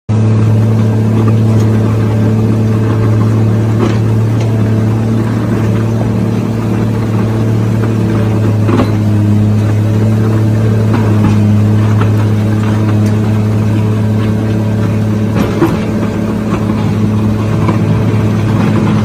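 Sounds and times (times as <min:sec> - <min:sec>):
excavator diesel engine running: 0:00.1 - 0:19.0
digging scrapes and knocks: 0:00.4 - 0:19.0.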